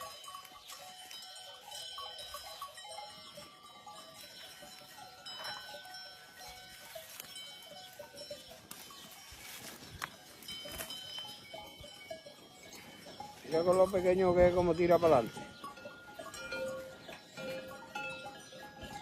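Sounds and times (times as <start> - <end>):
goat bells ringing: 0.0 - 19.0.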